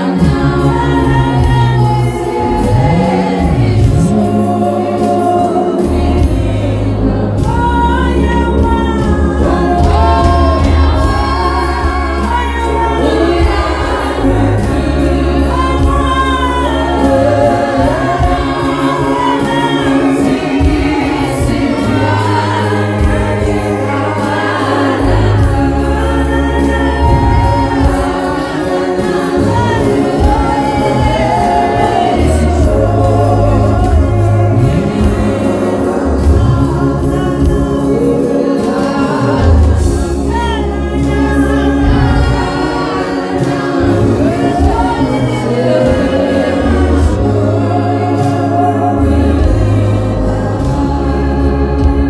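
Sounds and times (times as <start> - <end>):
woman singing into a microphone: 0.0 - 35.2, 36.1 - 52.0
congregation singing in chorus: 0.0 - 52.0
instrumental bass line: 0.0 - 52.0.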